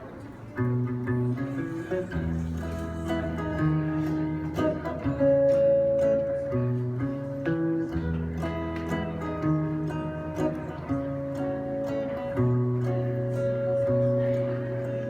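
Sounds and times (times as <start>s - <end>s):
guitar playing chords: 0.5s - 15.0s.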